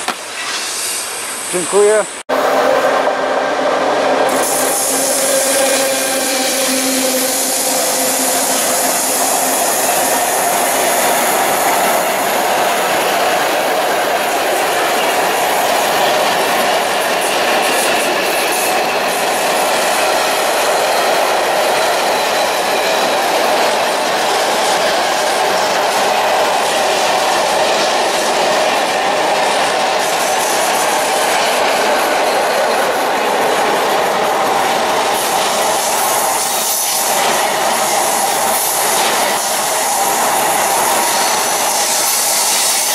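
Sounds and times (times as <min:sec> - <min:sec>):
freight train wheels on rails: 0:00.0 - 0:42.9.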